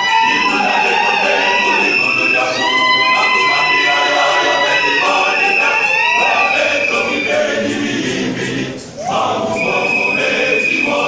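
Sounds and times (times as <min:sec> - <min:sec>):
choir singing: 0:00.0 - 0:11.0.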